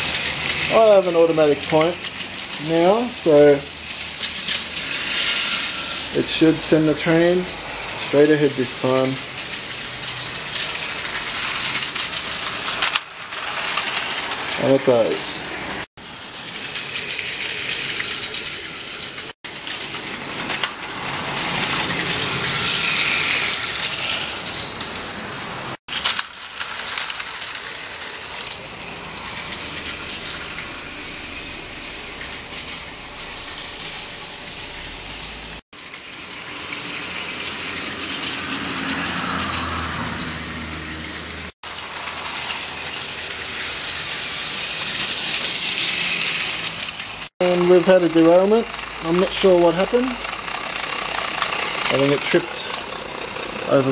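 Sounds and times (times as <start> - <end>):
plastic wheels clattering on track: 0.0 - 15.4, 16.3 - 40.2, 41.6 - 53.9
toy train motor whirring: 0.0 - 53.9.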